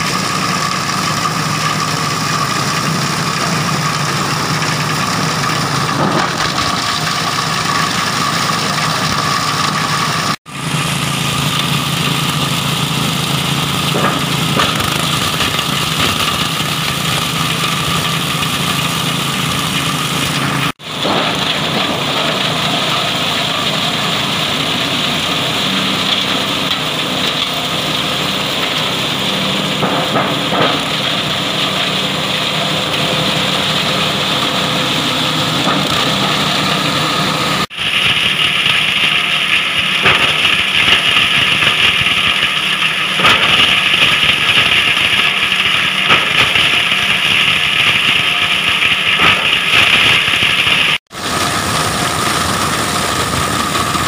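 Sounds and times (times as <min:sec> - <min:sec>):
petrol engine running: 0:00.0 - 0:54.0
shredder chopping plastic: 0:00.0 - 0:54.0.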